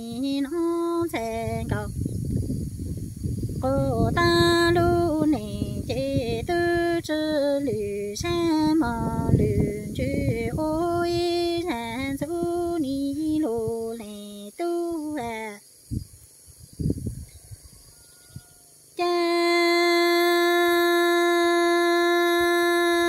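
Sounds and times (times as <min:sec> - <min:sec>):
woman singing unaccompanied: 0:00.0 - 0:02.5, 0:03.4 - 0:15.7, 0:18.9 - 0:23.0.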